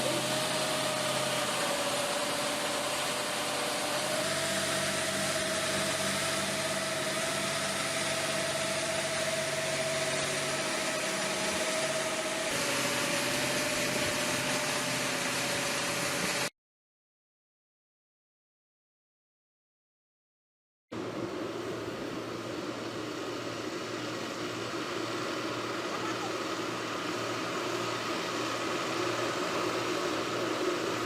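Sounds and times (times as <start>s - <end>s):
heavy vehicle engine running: 0.0s - 16.5s, 21.0s - 31.0s.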